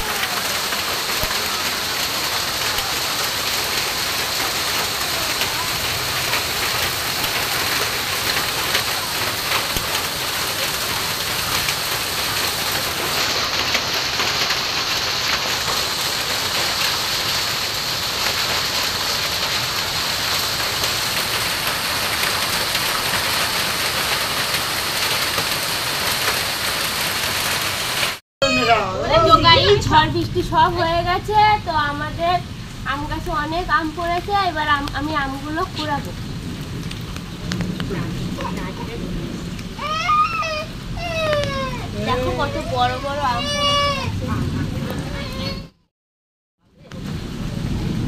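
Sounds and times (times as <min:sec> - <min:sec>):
hailstones ticking: 0:00.0 - 0:28.2, 0:30.1 - 0:45.6
steady hiss of rain: 0:00.0 - 0:28.2, 0:29.0 - 0:45.7, 0:46.6 - 0:48.0.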